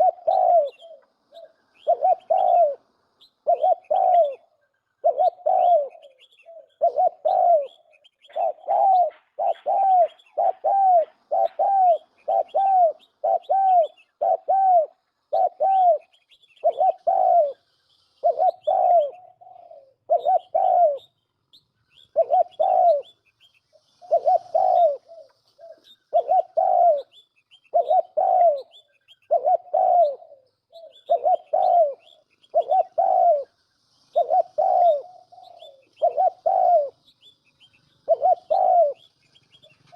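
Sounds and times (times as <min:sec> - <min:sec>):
dove cooing: 0:00.0 - 0:21.2, 0:22.0 - 0:39.9.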